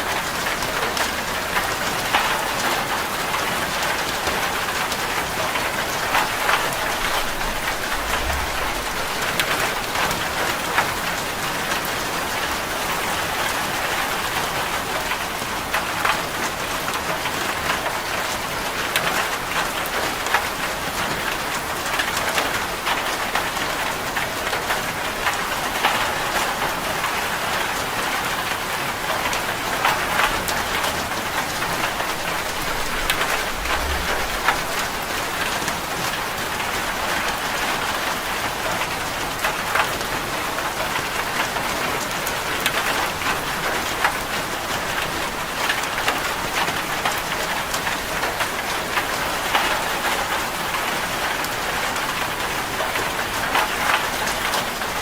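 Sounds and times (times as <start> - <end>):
heavy rain on metal roof: 0.0 - 55.0.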